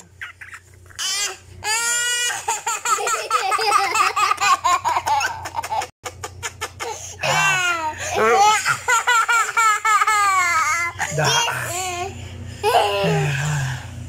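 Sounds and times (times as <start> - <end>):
toddler laughing: 0.0 - 13.4.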